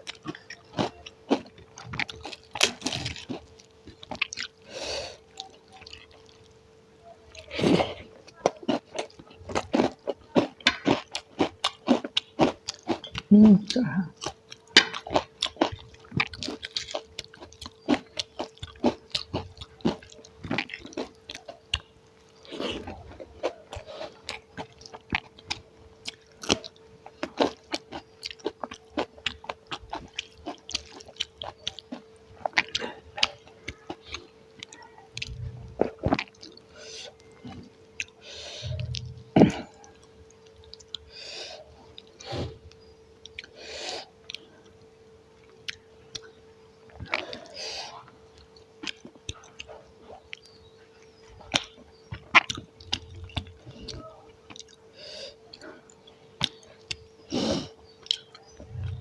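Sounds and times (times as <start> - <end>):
chewing and lip smacks: 0.0 - 4.6, 5.2 - 6.6, 14.2 - 57.2, 57.8 - 59.0.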